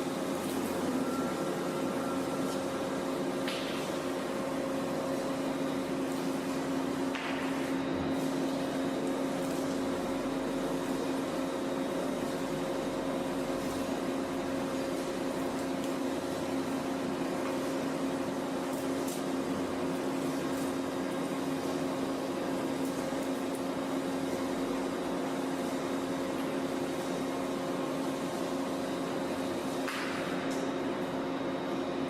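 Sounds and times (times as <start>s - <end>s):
machine humming and hissing: 0.0s - 32.0s.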